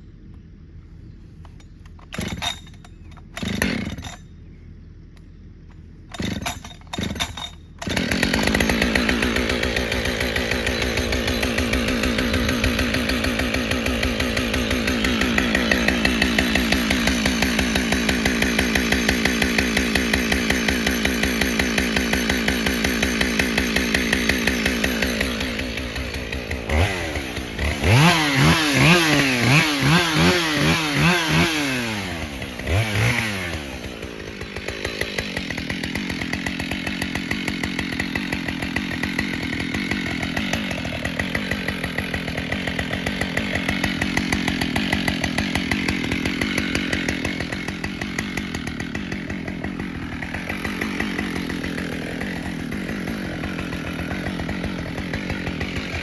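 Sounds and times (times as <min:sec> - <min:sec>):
chainsaw running and revving: 0:02.1 - 0:02.8, 0:03.4 - 0:04.2, 0:06.1 - 0:56.0.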